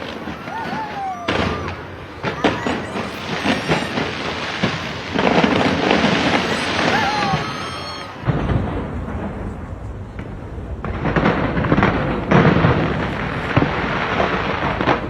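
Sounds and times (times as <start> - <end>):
crackling firework bursts: 0.0 - 15.0
firework bangs: 0.0 - 15.0.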